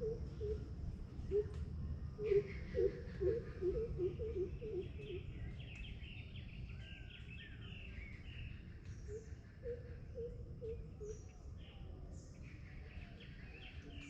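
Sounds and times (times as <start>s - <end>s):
low background rumble: 0.0s - 13.8s
birds chattering and twittering: 2.2s - 14.0s.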